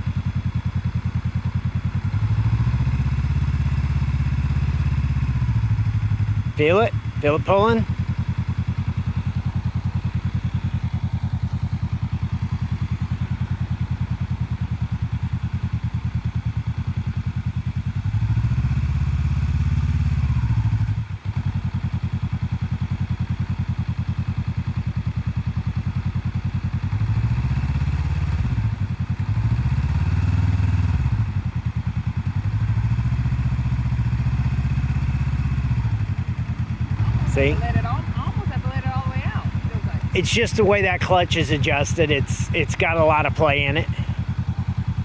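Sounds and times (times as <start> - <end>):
motorcycle engine idling and revving: 0.0 - 45.0.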